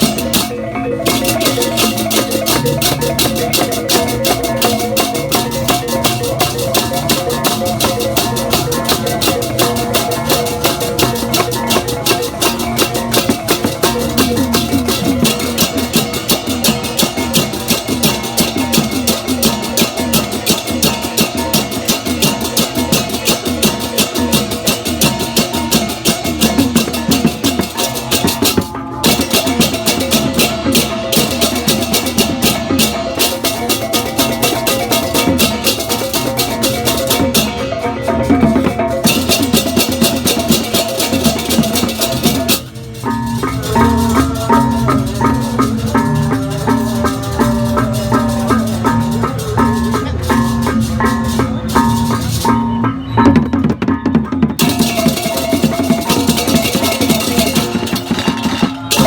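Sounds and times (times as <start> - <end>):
drums: 0.0 - 59.0
ringing bronze tones: 0.0 - 59.0
sharp percussion strokes: 0.0 - 59.0.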